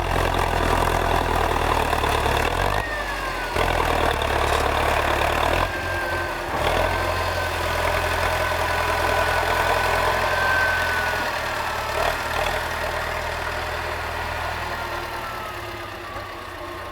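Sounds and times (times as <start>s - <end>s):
diesel tractor engine running: 0.0s - 16.9s.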